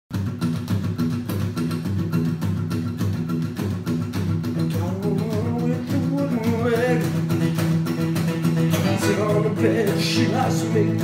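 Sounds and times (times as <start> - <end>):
acoustic guitar strumming: 0.1 - 11.0.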